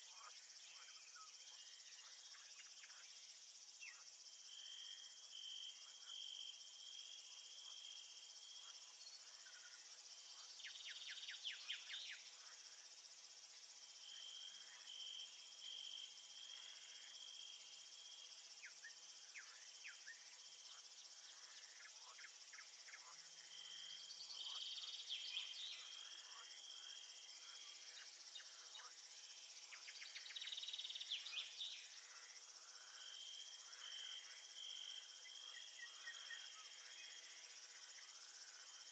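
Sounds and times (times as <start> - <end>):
insects chirping chorus: 0.0 - 38.9.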